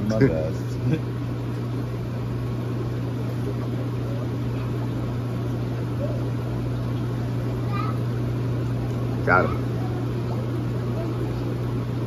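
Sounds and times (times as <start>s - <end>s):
aquarium pumps humming: 0.0s - 12.0s.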